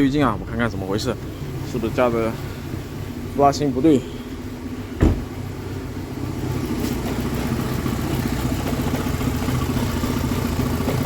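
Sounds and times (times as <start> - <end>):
car engine idling rough: 0.0 - 11.0.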